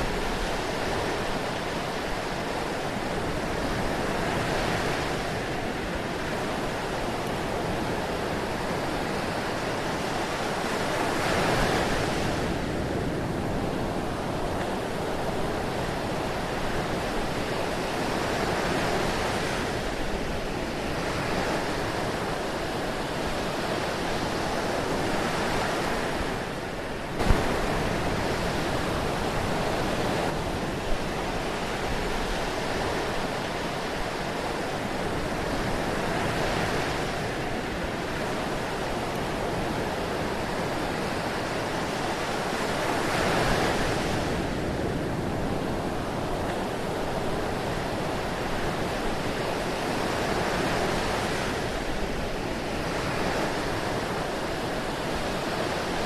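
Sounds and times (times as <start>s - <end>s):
ocean surf washing: 0.0s - 56.0s.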